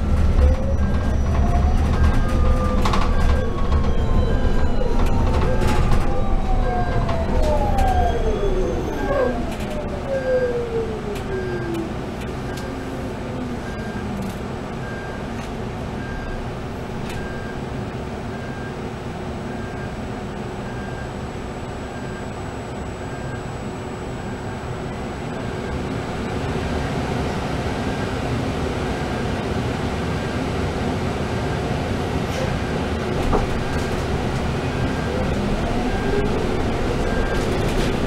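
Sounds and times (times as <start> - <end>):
road rumble: 0.0 - 38.0
steady bus hum: 0.0 - 38.0.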